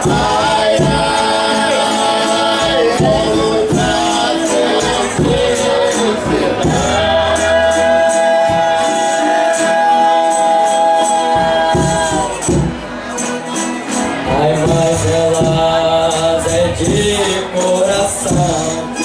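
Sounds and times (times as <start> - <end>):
tambourine beat: 0.0 - 19.0
voices singing in harmony: 0.0 - 19.0.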